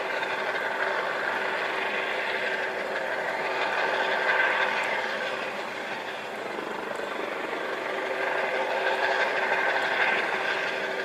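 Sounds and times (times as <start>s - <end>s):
helicopter turbine and rotor: 0.0s - 11.0s.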